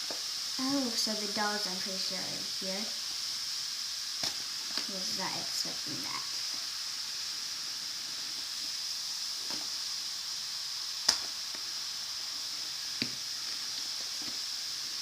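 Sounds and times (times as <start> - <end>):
bath fizzer fizzing in water: 0.0 - 15.0.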